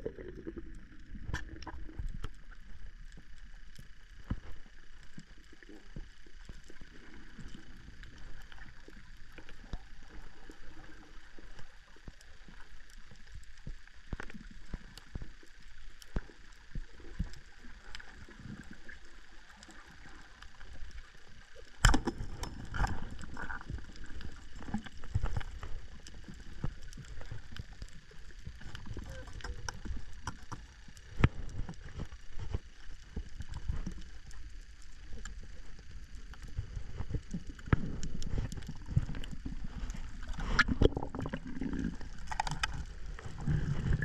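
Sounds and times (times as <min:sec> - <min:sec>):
small clicks and crackles: 0:00.0 - 0:44.0.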